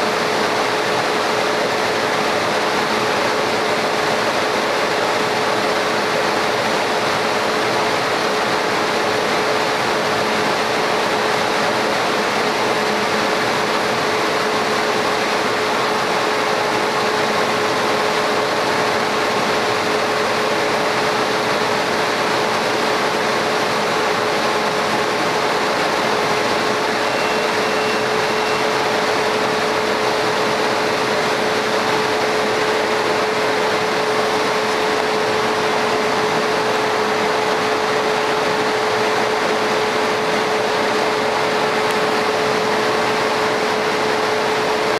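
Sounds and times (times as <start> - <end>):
laser cutter fan rush and hum: 0.0 - 44.9.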